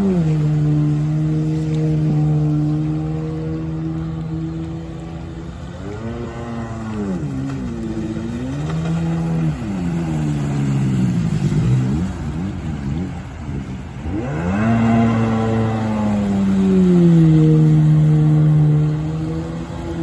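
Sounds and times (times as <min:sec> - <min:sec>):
watercraft engine revving: 0:00.0 - 0:20.0.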